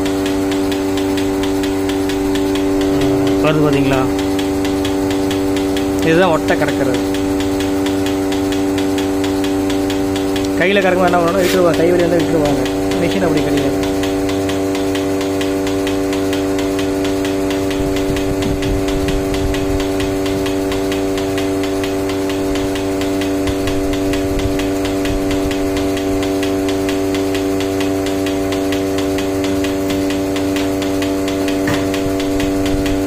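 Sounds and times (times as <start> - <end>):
fine regular ticking: 0.0 - 33.0
vacuum pump humming: 0.0 - 33.0.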